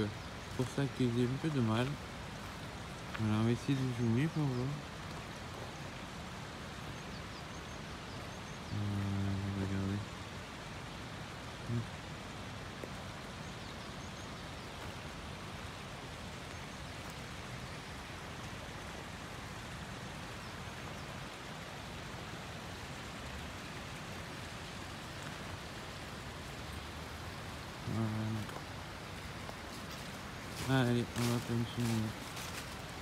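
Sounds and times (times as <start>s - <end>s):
running water from a spring: 0.0s - 33.0s.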